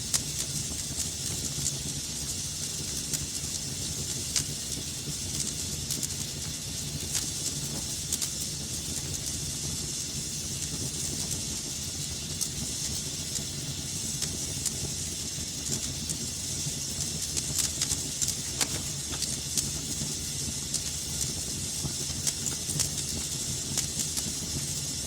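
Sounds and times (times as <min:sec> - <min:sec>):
fire crackles and pops: 0:00.0 - 0:25.0
fire hissing: 0:00.0 - 0:25.0.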